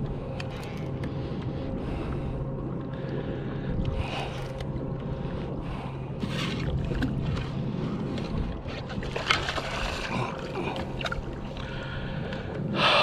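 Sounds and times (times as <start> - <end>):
steady low rumble: 0.0 - 13.0
water noise: 0.0 - 13.0
wind: 0.0 - 13.0.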